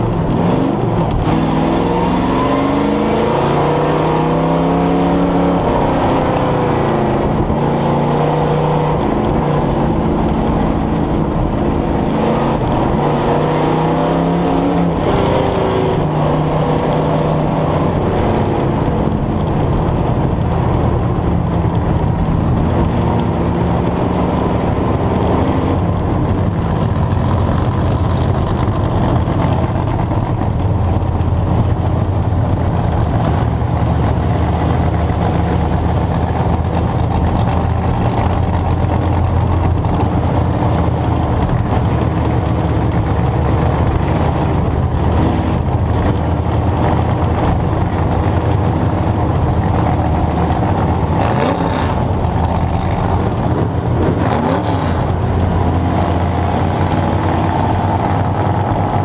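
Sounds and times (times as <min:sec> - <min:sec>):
other race cars: 0:00.0 - 0:59.0
race car engine running: 0:00.0 - 0:59.0.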